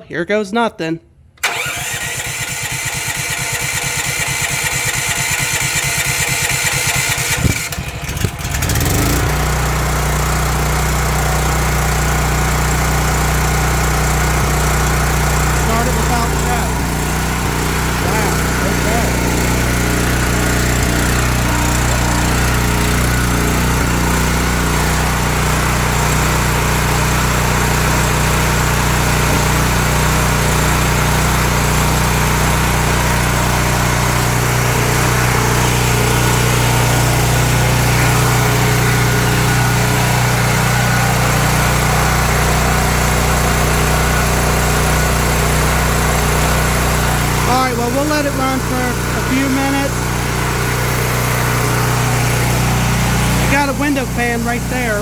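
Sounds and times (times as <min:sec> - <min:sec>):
generator engine running: 0:01.4 - 0:55.0.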